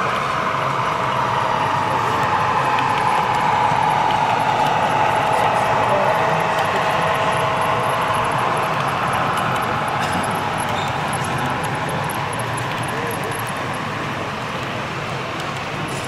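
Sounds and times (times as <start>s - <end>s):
model diesel locomotive engine: 0.0s - 16.0s.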